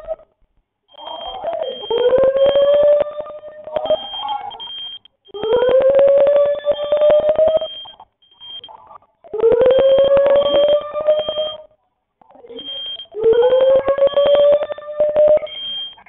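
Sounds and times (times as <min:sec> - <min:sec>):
fire alarm buzzing: 0:00.9 - 0:11.8, 0:12.5 - 0:16.0.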